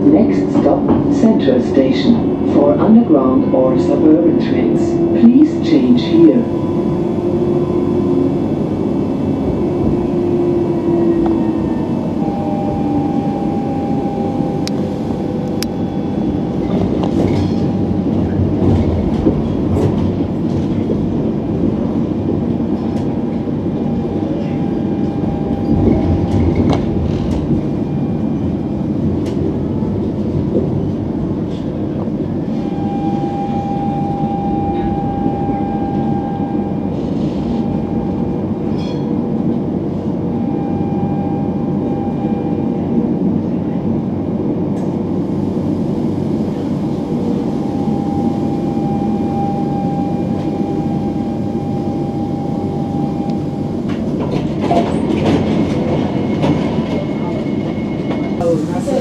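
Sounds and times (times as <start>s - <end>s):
tram rumbling on tracks: 0.0s - 59.0s.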